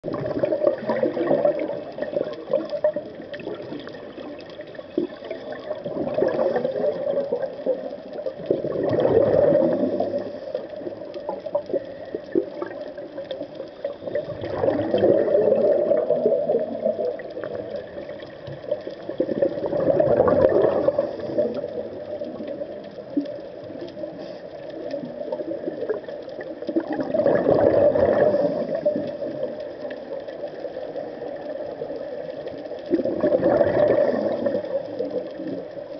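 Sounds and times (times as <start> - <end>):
diver's exhaled bubbles gurgling: 0.0 - 35.9
steady underwater hiss: 0.0 - 35.9.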